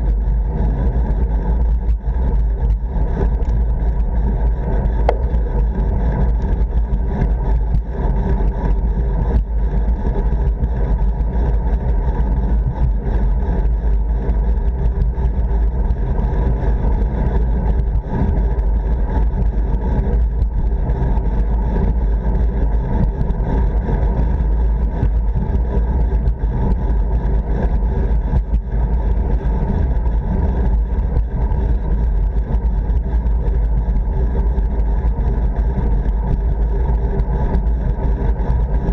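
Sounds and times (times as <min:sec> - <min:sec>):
wind rumble on microphone: 0:00.0 - 0:38.9.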